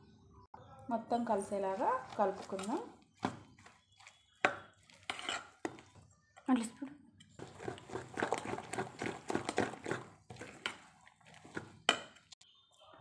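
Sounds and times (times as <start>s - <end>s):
spoon stirring thick batter: 1.2s - 12.4s.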